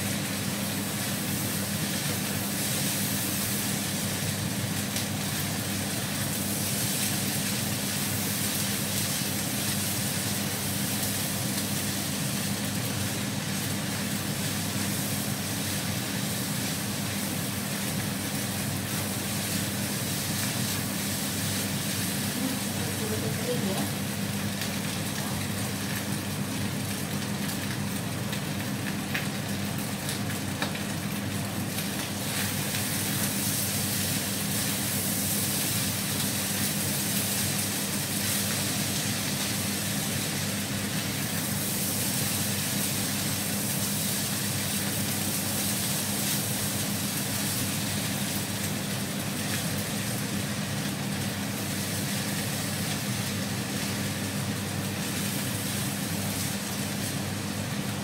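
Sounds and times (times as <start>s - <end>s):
cooker low hum: 0.0s - 58.0s
fried rice sizzling in a pan: 0.0s - 58.0s.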